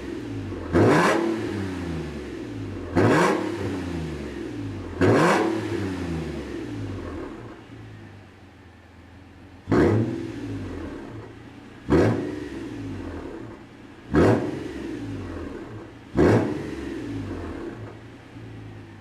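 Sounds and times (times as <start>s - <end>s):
car engine revving: 0.0s - 8.3s, 9.6s - 19.0s.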